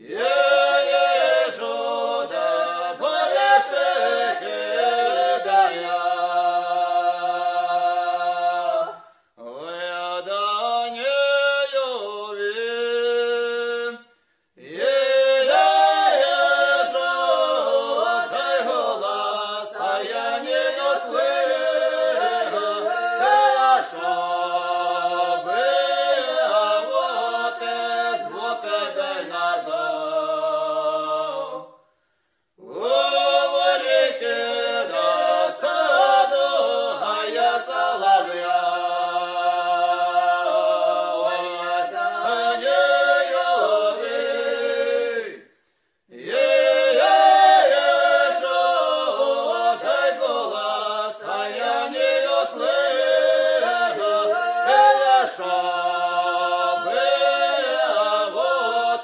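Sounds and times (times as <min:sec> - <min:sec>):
choir singing a cappella: 0:00.0 - 0:31.9, 0:32.6 - 0:59.0.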